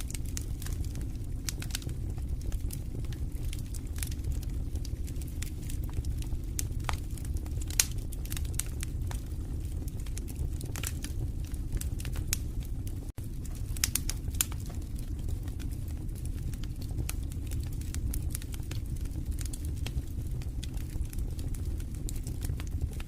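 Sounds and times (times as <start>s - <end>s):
wood fire burning: 0.0s - 23.0s.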